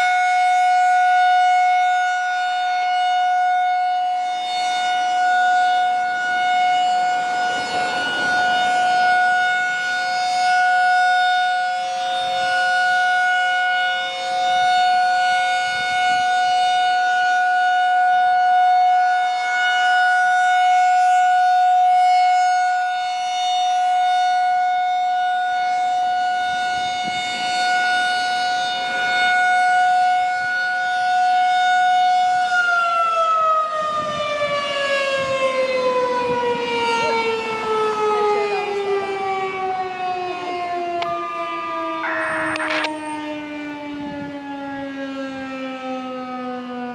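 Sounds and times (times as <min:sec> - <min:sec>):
rotating warning siren: 0:00.0 - 0:46.9.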